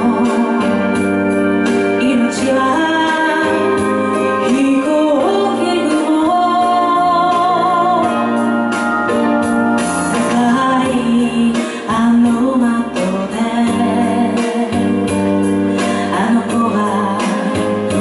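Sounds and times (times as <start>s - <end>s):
woman singing a slow ballad: 0.0s - 9.0s, 10.1s - 18.0s
keyboard accompaniment: 0.0s - 18.0s.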